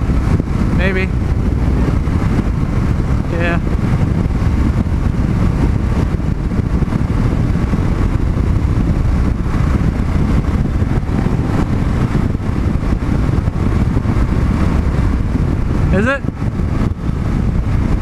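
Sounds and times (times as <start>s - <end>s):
motorcycle engine cruising: 0.0s - 18.0s
wind noise on microphone: 0.0s - 18.0s.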